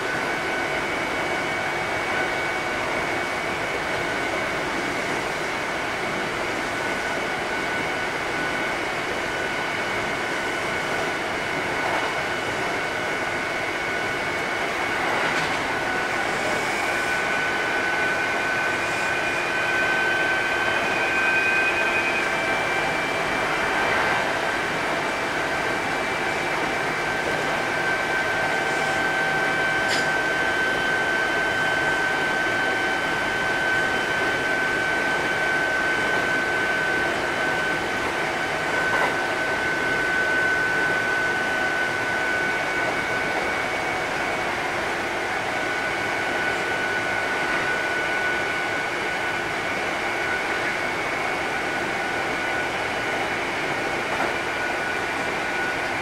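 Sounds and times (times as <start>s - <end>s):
electric train running rumble: 0.0s - 56.0s
high train whine: 0.0s - 56.0s.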